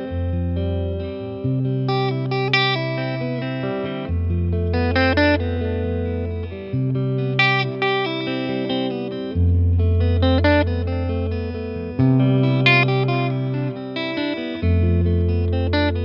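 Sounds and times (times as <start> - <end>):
electric guitar playing: 0.0 - 16.0.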